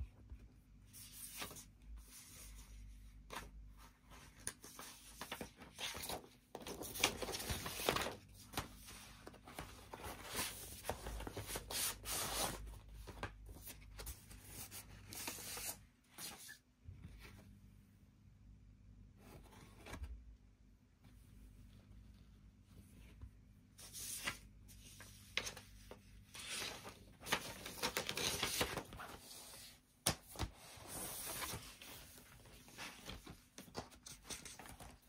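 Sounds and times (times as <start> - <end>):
paper sleeves rustling and sliding: 0.9 - 17.6, 21.0 - 35.0.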